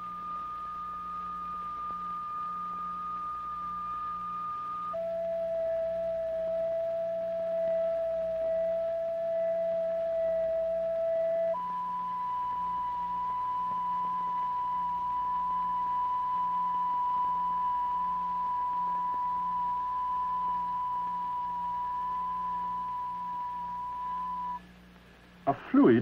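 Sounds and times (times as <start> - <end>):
high electronic tone: 0.0 - 24.6.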